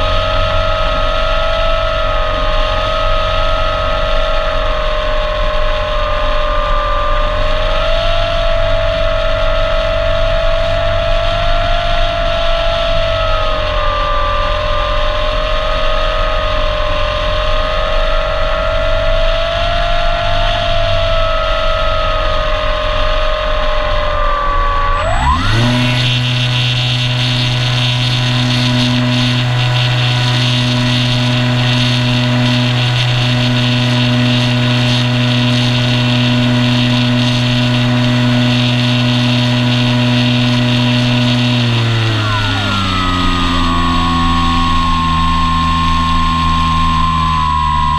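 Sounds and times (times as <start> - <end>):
electric motor and propeller whine: 0.0 - 47.9.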